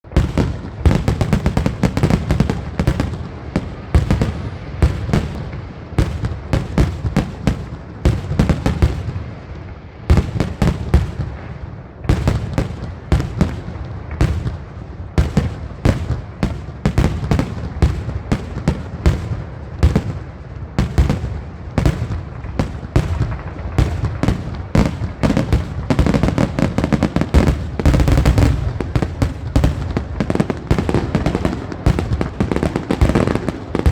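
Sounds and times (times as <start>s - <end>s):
fireworks bursting and crackling: 0.0s - 33.9s.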